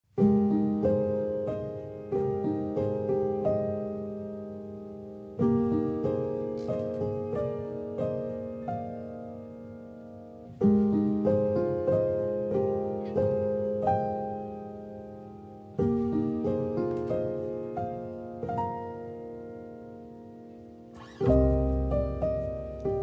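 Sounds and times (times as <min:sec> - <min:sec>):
gentle piano melody: 0:00.1 - 0:23.0.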